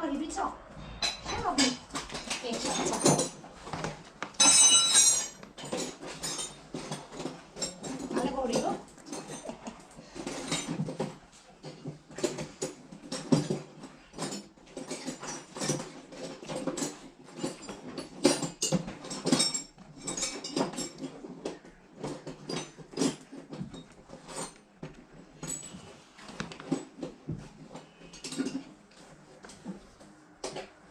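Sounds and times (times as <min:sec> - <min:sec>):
hand tools clinking on steel: 0:01.0 - 0:25.9.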